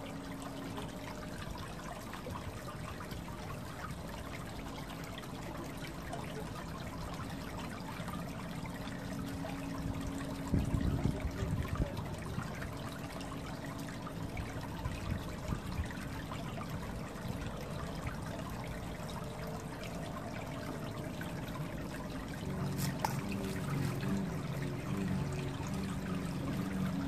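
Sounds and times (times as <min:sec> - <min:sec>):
low hum: 0:00.0 - 0:27.0
water trickling: 0:00.0 - 0:27.0.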